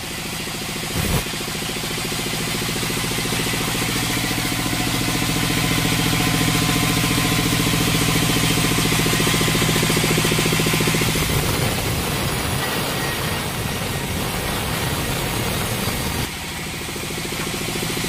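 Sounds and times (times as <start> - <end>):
band sawmill running: 0.0 - 18.0.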